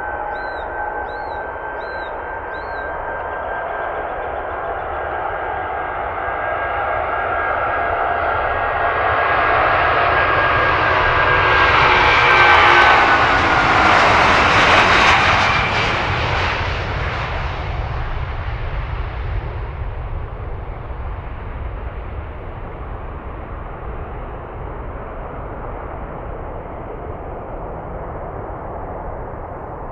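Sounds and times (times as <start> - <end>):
airliner engines passing: 0.0 - 29.9.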